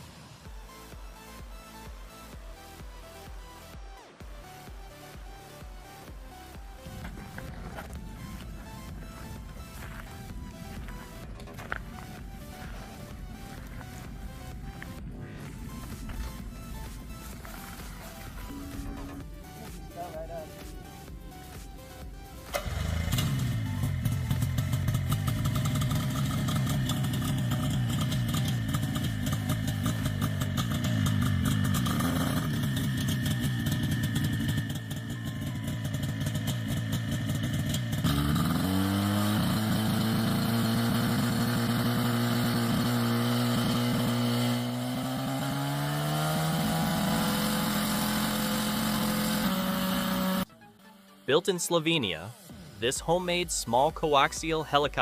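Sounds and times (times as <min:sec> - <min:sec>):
small aircraft engine running: 0:06.3 - 0:51.4, 0:52.3 - 0:52.8.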